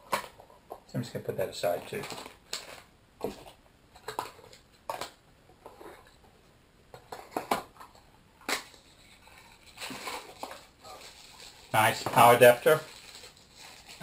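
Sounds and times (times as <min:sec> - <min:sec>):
plastic and cardboard rustling: 0:00.0 - 0:14.0.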